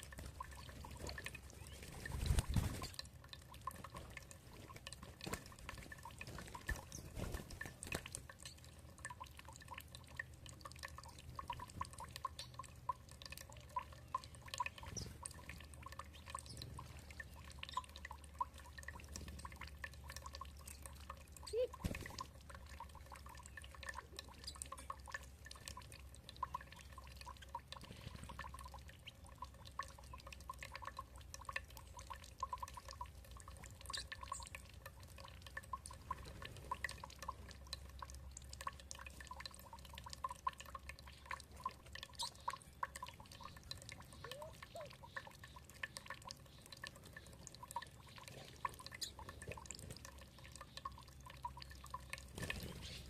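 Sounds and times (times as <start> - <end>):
water trickling and dripping: 0.0 - 53.0.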